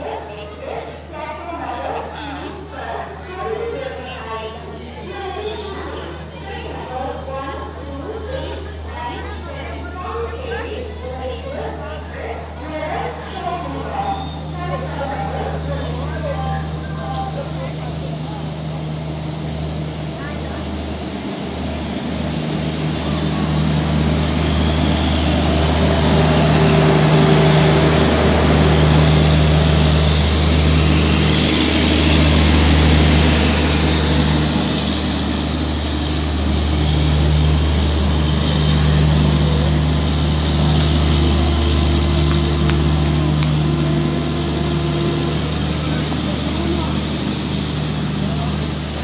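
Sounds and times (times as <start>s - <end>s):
train rolling slowly: 0.0s - 49.0s
generator and fans humming: 4.2s - 49.0s.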